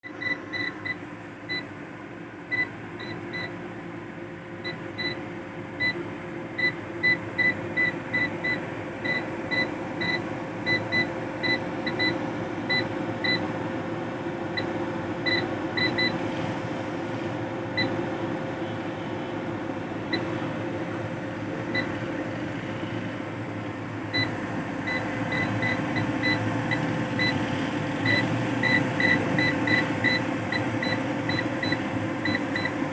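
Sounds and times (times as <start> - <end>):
steady hum: 0.1 - 32.9.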